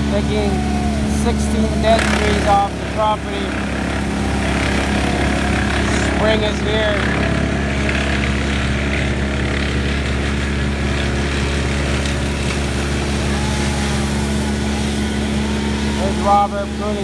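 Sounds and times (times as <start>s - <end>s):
large engine humming: 0.0s - 17.0s.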